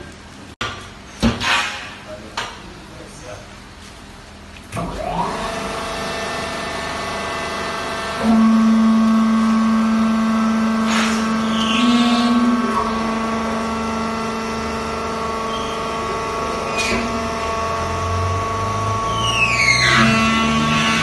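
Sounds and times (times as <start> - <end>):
hydraulic power unit humming: 3.8 - 21.0.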